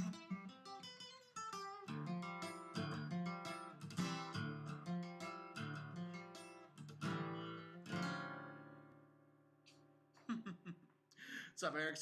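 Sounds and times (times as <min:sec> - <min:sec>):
acoustic guitar riff: 0:00.0 - 0:10.0.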